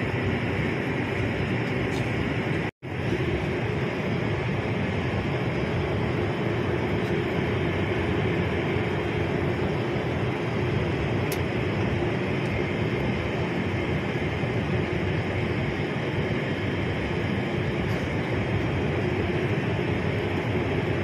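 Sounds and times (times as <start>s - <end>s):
jet airliner cabin noise: 0.0s - 21.0s
low steady hum: 0.0s - 21.0s.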